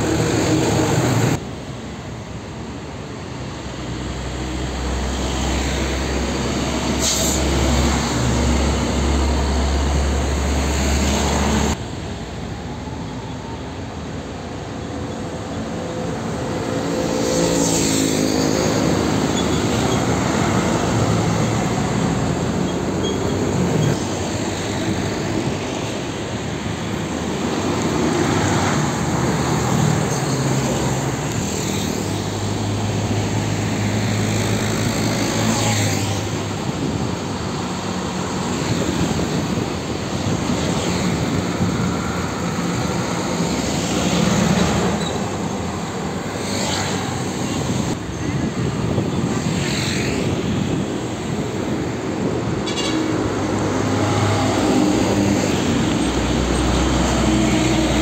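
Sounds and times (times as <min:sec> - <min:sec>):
diesel trucks passing: 0:00.0 - 0:58.0.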